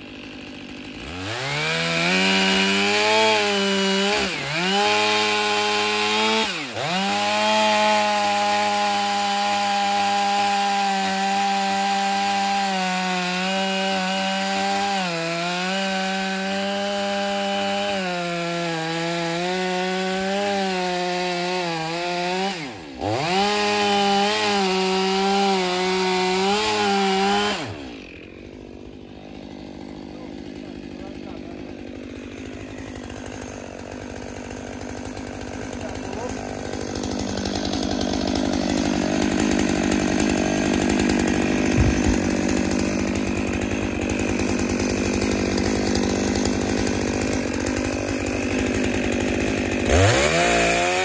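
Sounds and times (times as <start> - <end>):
chainsaw cutting logs: 0.0 - 51.0.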